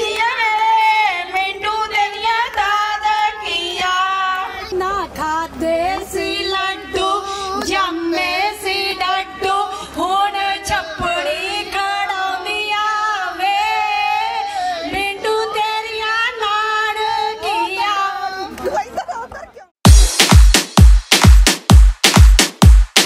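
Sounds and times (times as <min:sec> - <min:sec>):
women singing together: 0:00.0 - 0:18.9.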